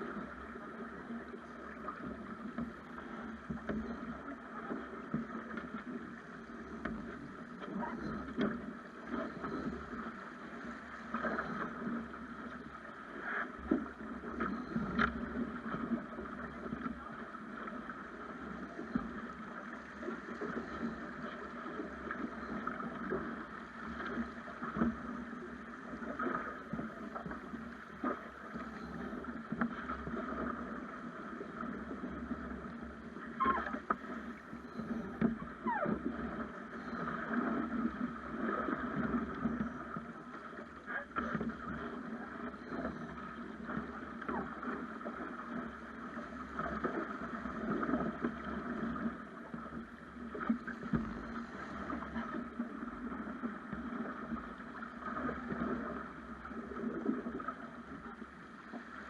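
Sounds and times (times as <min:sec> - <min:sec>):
water rushing along a boat hull: 0:00.0 - 0:59.0.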